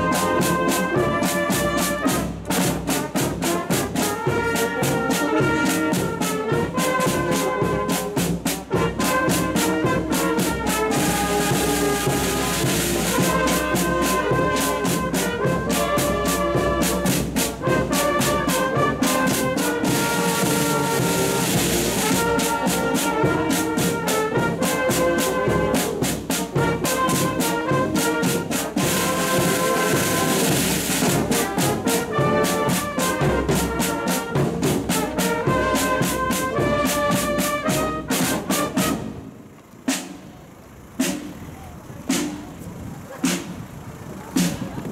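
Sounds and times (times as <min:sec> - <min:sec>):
side drum beats: 0:00.0 - 0:39.2, 0:41.0 - 0:43.6, 0:44.2 - 0:44.9
brass instruments playing a march: 0:00.0 - 0:41.4.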